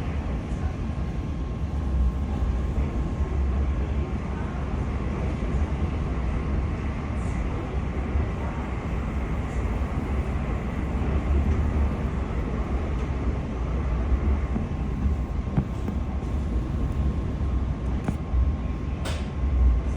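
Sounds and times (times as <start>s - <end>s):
train rumbling on rails: 0.0s - 19.9s.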